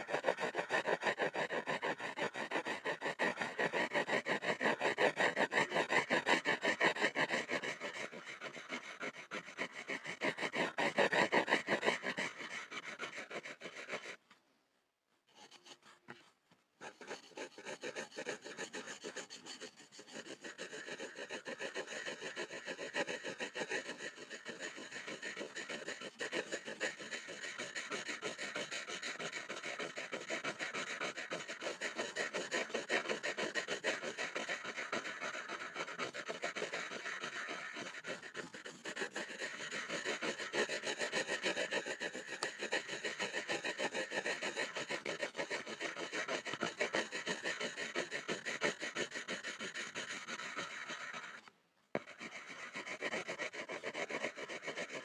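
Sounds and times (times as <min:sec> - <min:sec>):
pencil scribbling on wood: 0:00.0 - 0:14.3, 0:15.3 - 0:55.0.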